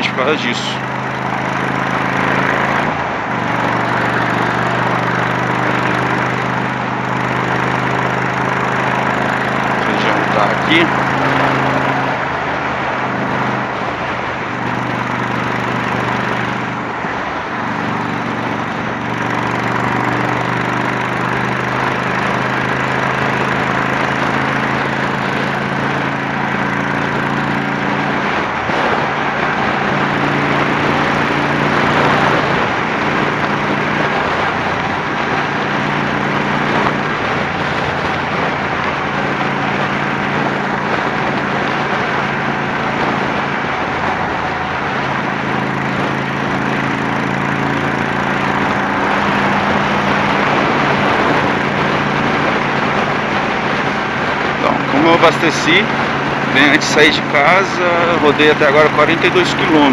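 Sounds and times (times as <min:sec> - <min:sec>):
motorcycle engine running: 0:00.0 - 0:59.9
wind and road rush: 0:00.0 - 0:59.9.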